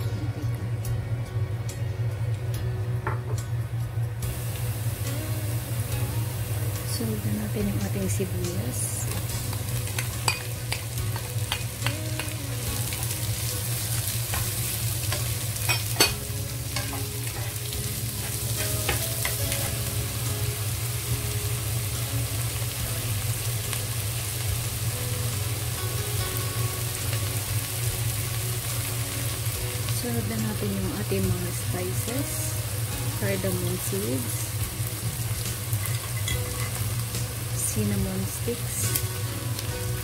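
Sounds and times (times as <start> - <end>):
steady low hum: 0.0 - 35.8
onions sizzling in oil: 4.2 - 40.0.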